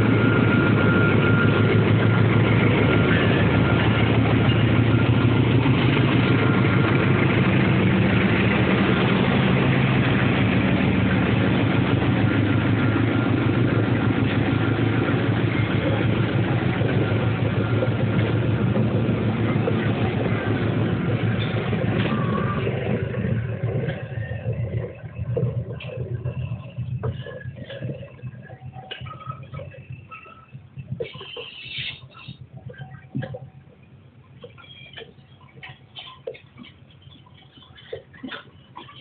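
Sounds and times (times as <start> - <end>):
locomotive engine humming: 0.0 - 39.0.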